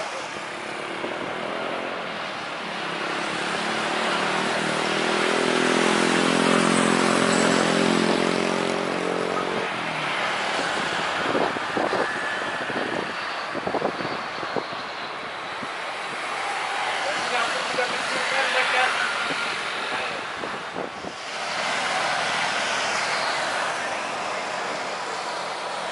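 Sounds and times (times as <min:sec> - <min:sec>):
jet engines roaring: 0:00.0 - 0:25.9.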